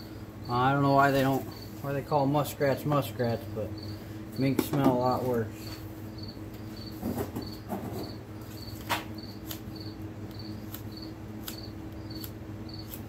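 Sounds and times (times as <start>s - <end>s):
cricket chirping: 0.0s - 2.0s, 3.2s - 13.0s
low steady hum: 0.0s - 13.0s.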